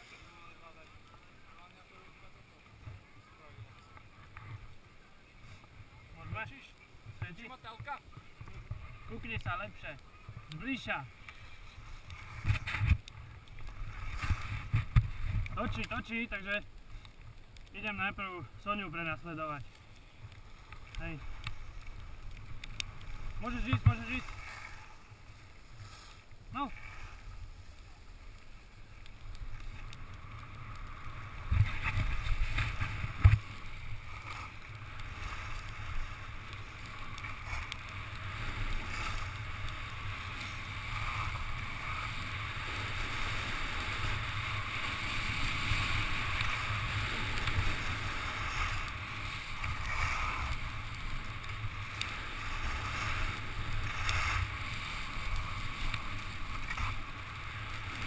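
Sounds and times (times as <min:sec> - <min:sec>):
skis scraping over snow: 0:00.0 - 0:58.0.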